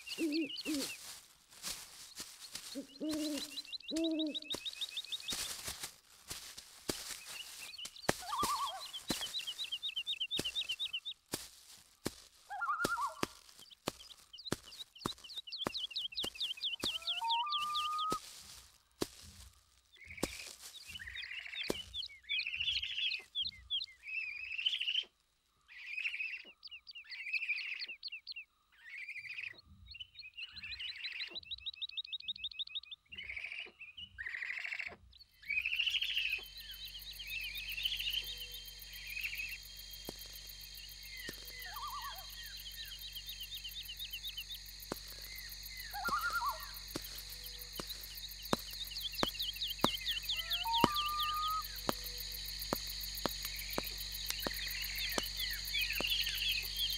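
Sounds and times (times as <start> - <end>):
birds calling: 0.0 - 25.1, 30.3 - 56.9
crickets and insects chirping: 0.0 - 29.6, 35.1 - 56.9.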